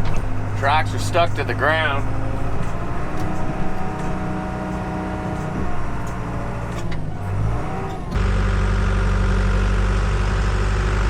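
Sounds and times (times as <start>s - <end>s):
dozer diesel engine running: 0.0s - 11.0s.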